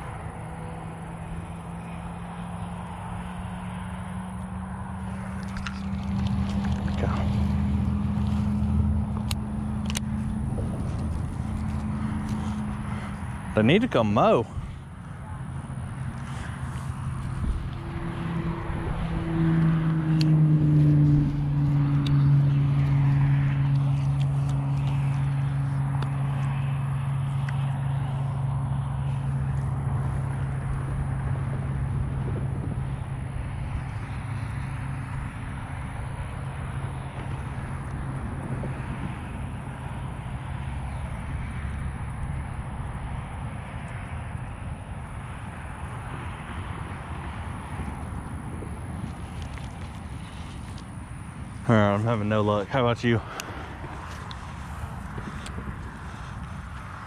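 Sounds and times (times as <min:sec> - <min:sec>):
motor engine humming: 0:00.0 - 0:57.0.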